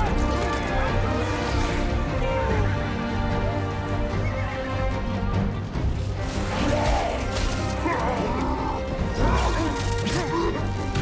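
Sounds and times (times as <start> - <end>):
orchestral film music: 0.0 - 11.0.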